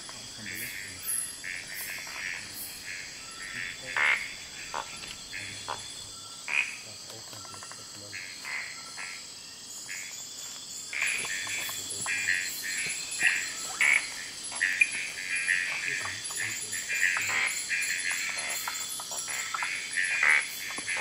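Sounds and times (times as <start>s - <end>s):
frogs calling: 0.0s - 21.0s
high drone of insects: 0.0s - 21.0s.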